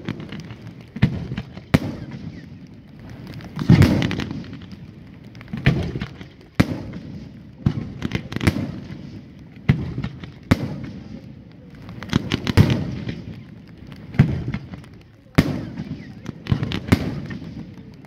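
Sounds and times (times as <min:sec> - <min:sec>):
firework bangs: 0:00.0 - 0:18.0.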